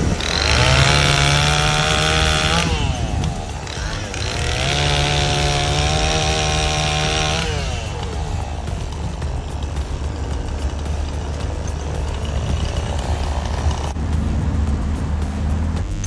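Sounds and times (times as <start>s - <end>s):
chainsaw engine revving: 0.0s - 16.0s
low steady engine rumble: 0.0s - 16.0s.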